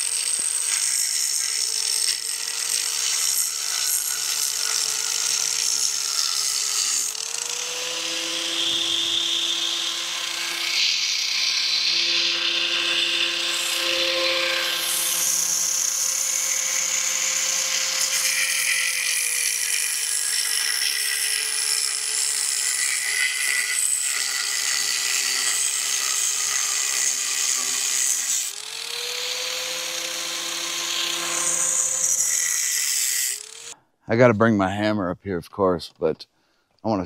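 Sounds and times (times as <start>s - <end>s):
angle grinder cutting steel: 0.0s - 33.8s.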